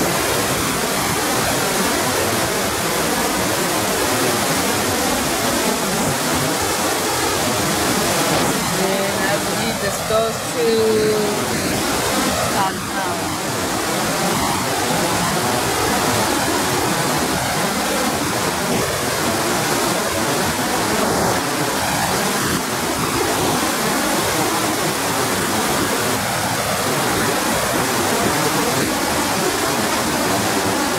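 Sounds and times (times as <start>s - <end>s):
river rapids rushing: 0.0s - 30.9s.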